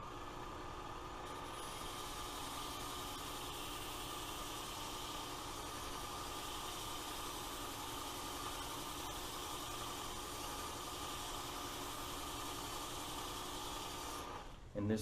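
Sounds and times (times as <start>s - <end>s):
belt sharpener motor humming: 0.0s - 14.6s.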